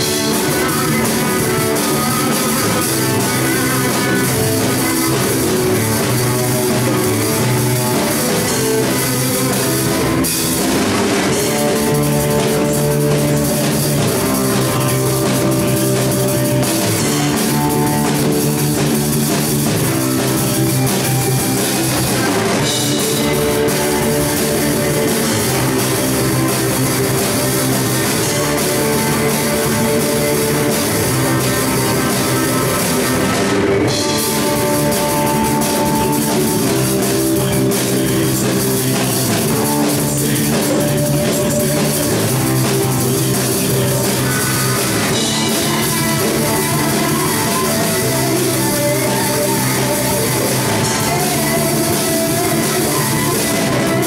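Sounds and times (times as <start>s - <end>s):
drum kit beat: 0.0s - 54.0s
electric guitar: 0.0s - 54.0s
rock band playing: 0.0s - 54.0s.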